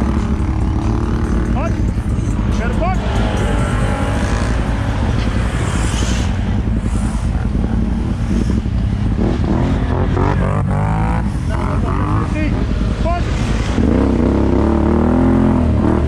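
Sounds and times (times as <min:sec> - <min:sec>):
atv engines running: 0:00.0 - 0:16.0
quad engine revving: 0:00.0 - 0:16.0.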